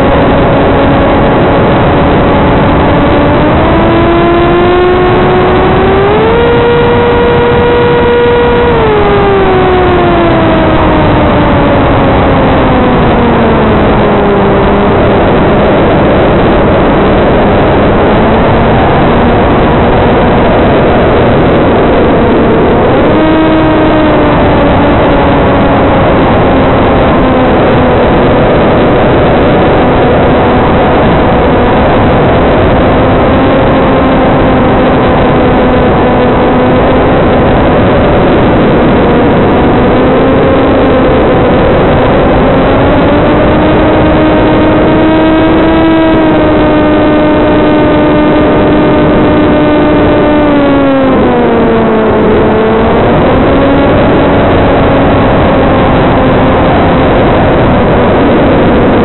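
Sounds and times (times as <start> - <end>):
electric motor propeller whine: 0.0 - 59.0.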